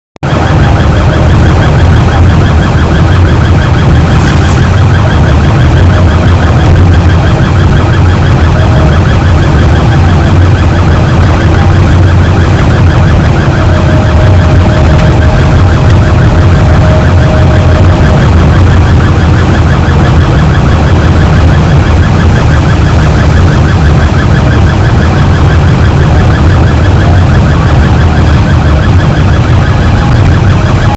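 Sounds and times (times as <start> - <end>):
ambulance siren warbling: 0.2 - 30.9
low rumble: 0.2 - 30.9
steady tone: 0.2 - 30.9.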